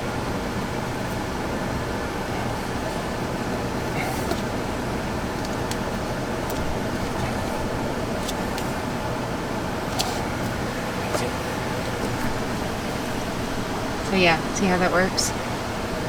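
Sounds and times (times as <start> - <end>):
vehicle hum inside cab: 0.0 - 16.0.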